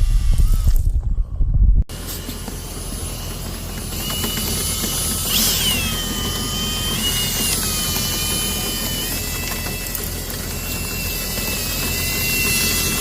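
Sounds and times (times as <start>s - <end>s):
motor running with whine: 0.0s - 13.0s.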